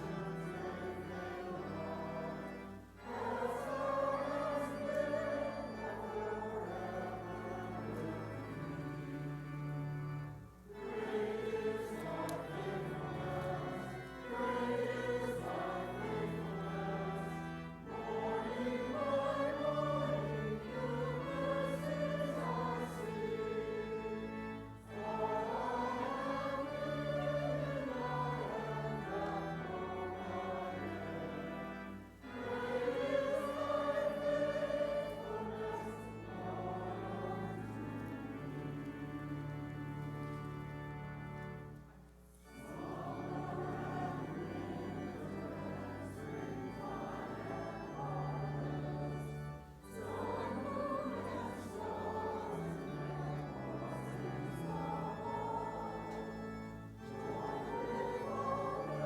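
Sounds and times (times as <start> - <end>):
low held accompanying notes: 0.0 - 59.0
voices singing a hymn: 0.0 - 59.0.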